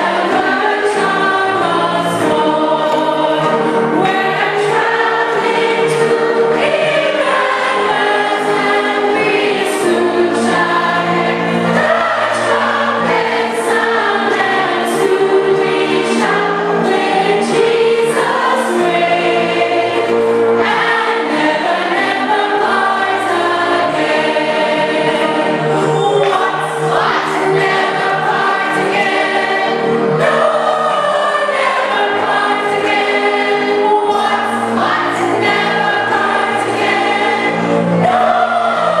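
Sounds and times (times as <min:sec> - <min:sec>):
choir singing a hymn: 0:00.0 - 0:39.0.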